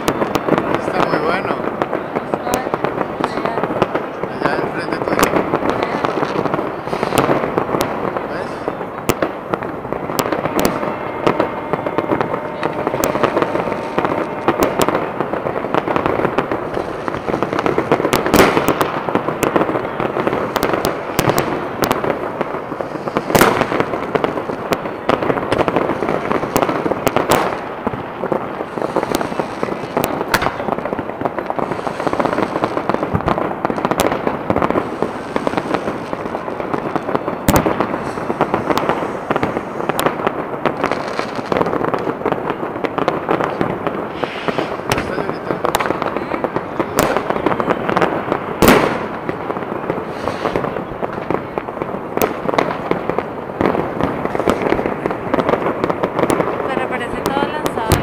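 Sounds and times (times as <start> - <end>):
fireworks crackling and banging: 0.0 - 58.0
sharp firework bangs: 0.0 - 58.0.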